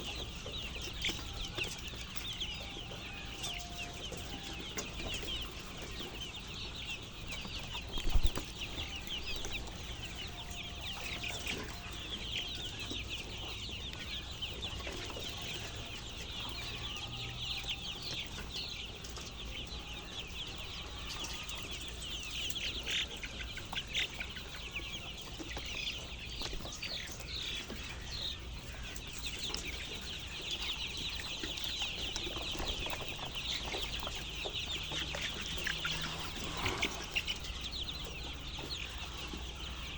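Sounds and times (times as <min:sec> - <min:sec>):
chickens chattering: 0:00.0 - 0:39.9.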